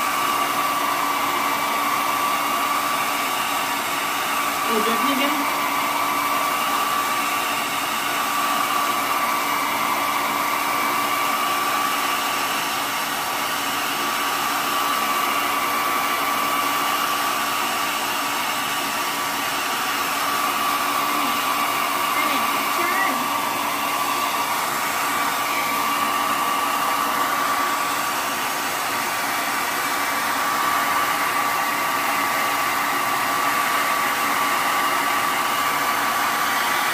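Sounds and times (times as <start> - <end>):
hair dryer running: 0.0 - 36.9.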